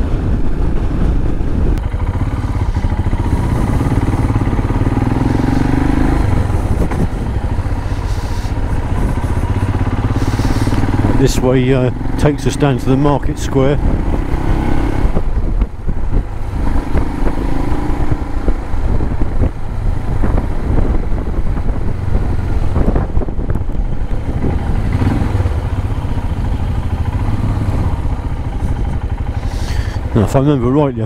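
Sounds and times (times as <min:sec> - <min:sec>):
wind rumble on microphone: 0:00.0 - 0:30.9
motorcycle engine running: 0:00.0 - 0:31.0.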